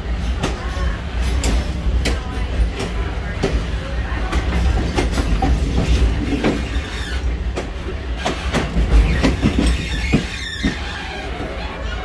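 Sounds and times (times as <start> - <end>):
rail joint clicks: 0.0 - 12.0
train wheels rumbling on rails: 0.0 - 12.0.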